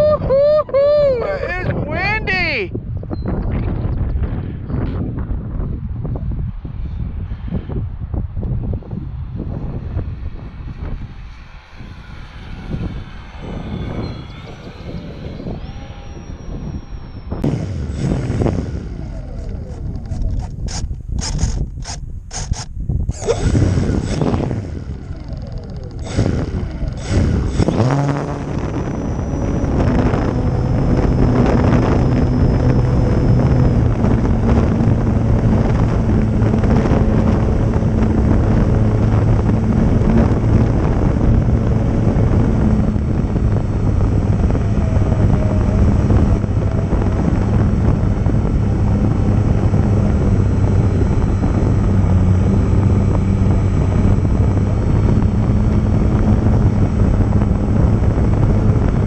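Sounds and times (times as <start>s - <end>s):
wind noise on microphone: 0.0s - 59.0s
model airplane motor whining: 9.3s - 59.0s.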